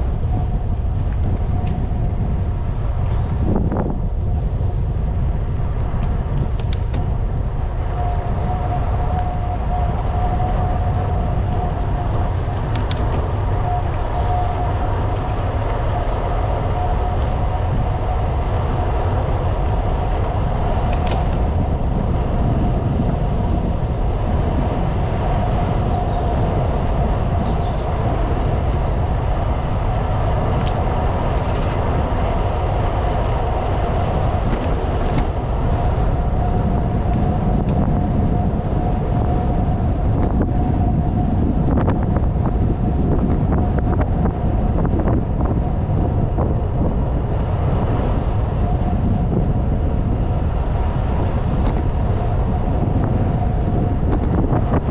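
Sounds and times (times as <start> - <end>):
bicycle rumble: 0.0 - 54.9
thin steady whine: 0.0 - 54.9.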